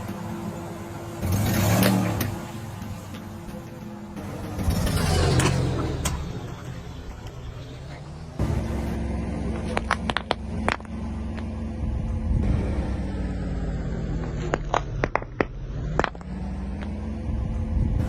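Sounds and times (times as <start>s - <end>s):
car engine running under load: 0.0s - 18.0s.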